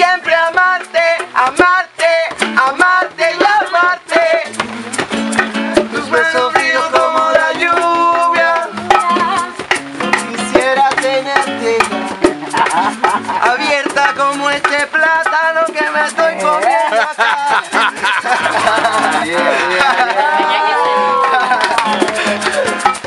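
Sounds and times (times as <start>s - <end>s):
instrumental accompaniment: 0.0s - 23.0s
maracas shaken: 0.0s - 23.0s
person singing: 0.0s - 23.0s.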